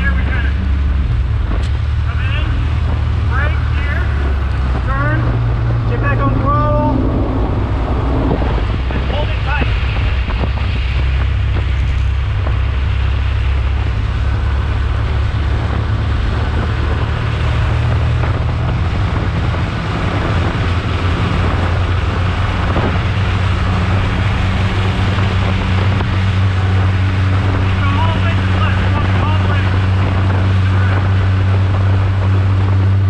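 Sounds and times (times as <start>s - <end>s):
race car engine running hard: 0.0s - 33.0s
wind and road noise: 0.0s - 33.0s.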